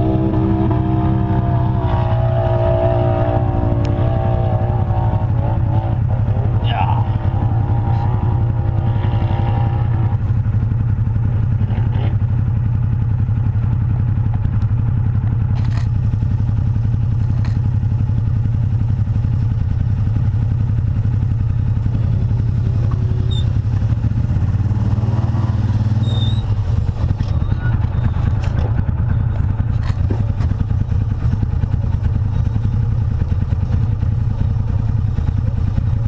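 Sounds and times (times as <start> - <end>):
utility vehicle engine droning: 0.0 - 36.0.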